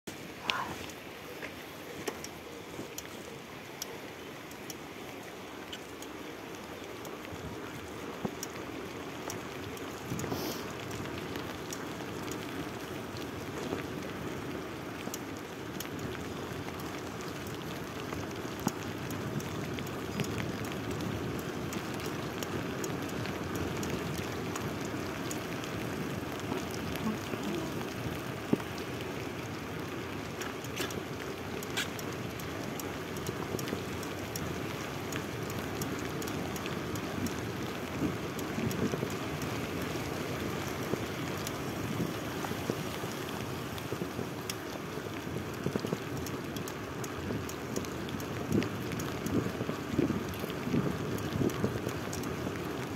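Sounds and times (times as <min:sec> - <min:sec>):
bicycle tyres hissing on wet asphalt: 0:00.1 - 0:52.9.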